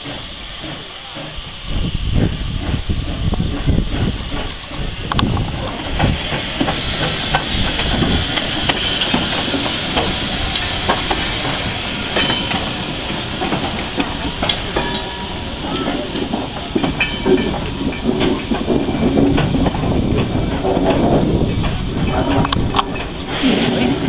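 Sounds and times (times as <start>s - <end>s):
steam hissing: 0.0s - 24.0s
steam locomotive chuffing: 0.0s - 24.0s
wheels clicking on rails: 0.0s - 24.0s.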